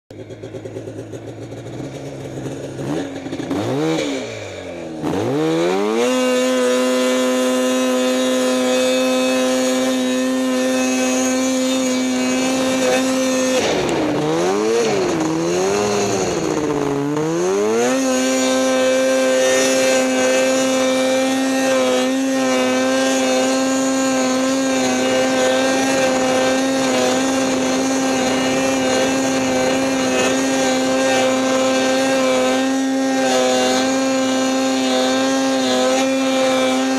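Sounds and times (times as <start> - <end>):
snowmobile engine revving high: 0.2 - 36.9.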